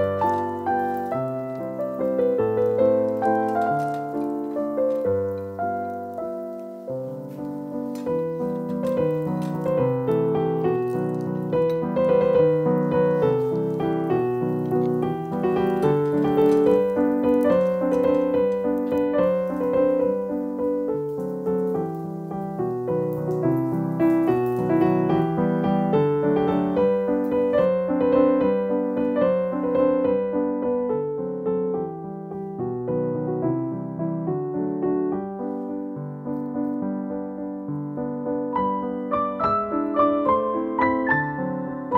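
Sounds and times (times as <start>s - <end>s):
gentle piano melody: 0.0s - 41.9s.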